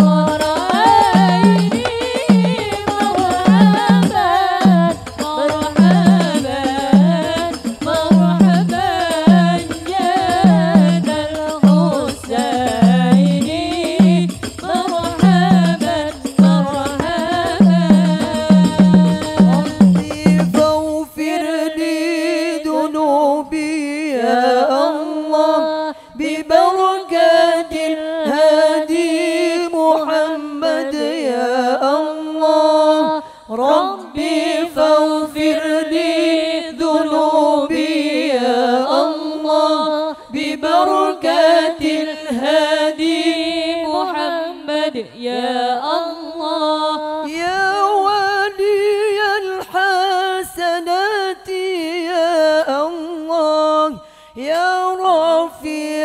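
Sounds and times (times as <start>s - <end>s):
woman chanting a prayer: 0.0s - 56.0s.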